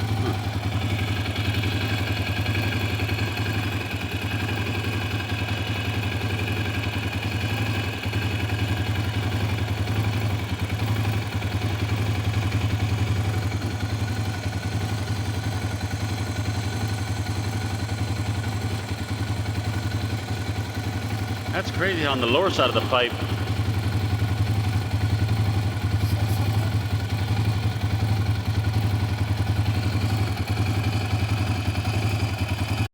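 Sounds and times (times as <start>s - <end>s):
engine idling through exhaust: 0.0s - 32.9s.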